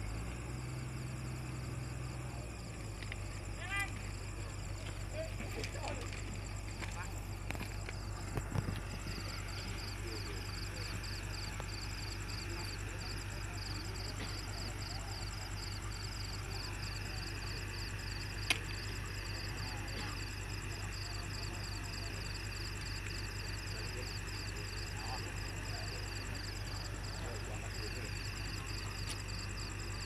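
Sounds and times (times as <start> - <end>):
engine humming: 0.0 - 30.0
insects chirping: 0.0 - 30.0.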